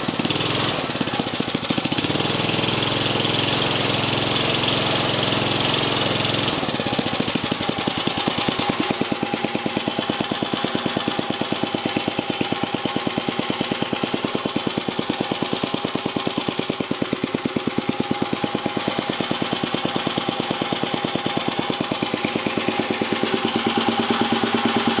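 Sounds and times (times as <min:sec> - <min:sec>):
small engine idling: 0:00.0 - 0:25.0.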